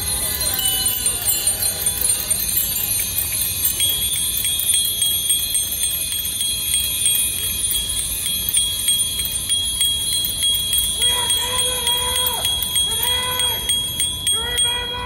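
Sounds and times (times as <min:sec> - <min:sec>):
bicycle bells ringing: 0:00.0 - 0:15.0.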